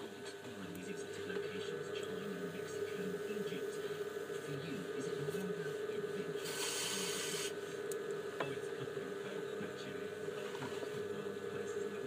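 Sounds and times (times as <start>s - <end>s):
potter's wheel humming: 0.0s - 12.0s.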